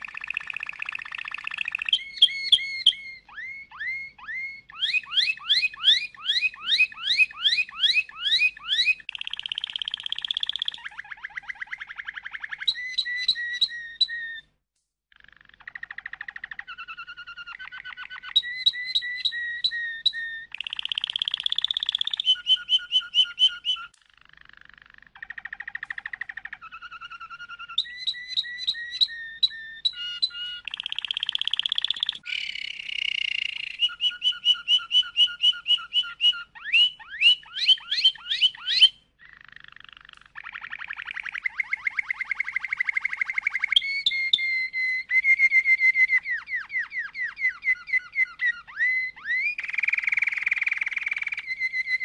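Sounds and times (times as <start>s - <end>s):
canary singing trills: 0.0s - 14.5s, 15.1s - 52.0s.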